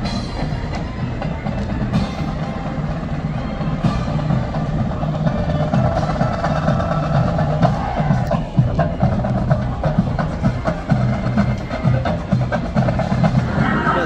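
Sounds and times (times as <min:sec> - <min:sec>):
drums and percussion: 0:00.0 - 0:14.0
marching band playing: 0:00.0 - 0:14.0.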